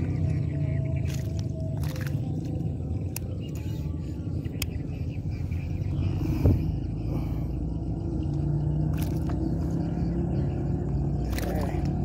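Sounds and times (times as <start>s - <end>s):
faint hum: 0.0s - 12.0s
low rumble: 0.0s - 12.0s.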